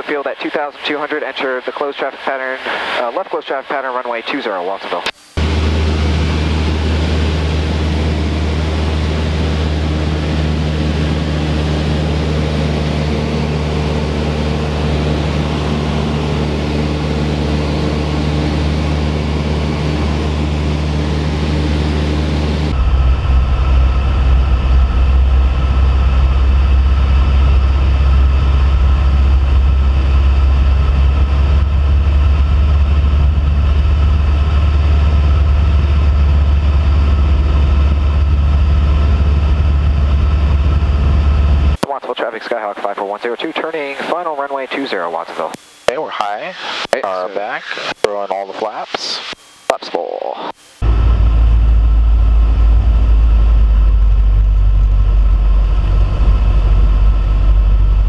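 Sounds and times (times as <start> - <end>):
light aircraft engine droning: 5.4 - 45.6, 50.8 - 58.0.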